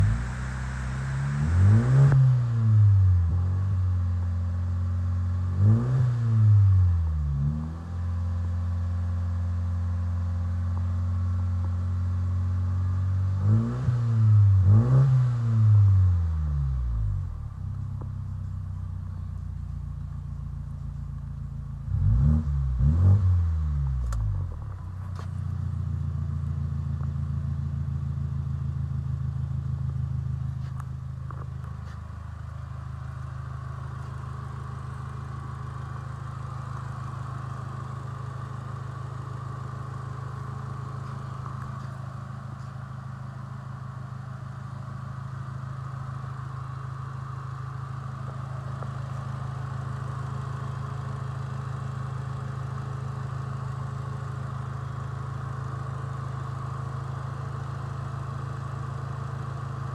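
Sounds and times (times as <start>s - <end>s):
engine revving and idling: 0.0s - 59.9s.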